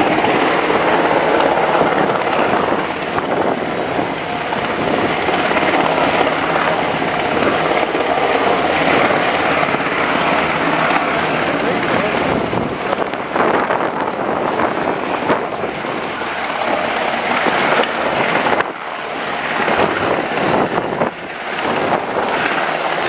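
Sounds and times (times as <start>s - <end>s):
helicopter rotor hovering: 0.0s - 23.0s
wind buffeting microphone: 0.0s - 23.0s.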